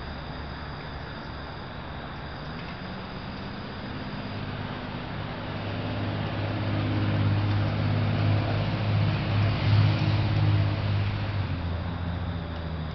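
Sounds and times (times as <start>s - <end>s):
vehicle engine humming: 0.0s - 12.9s.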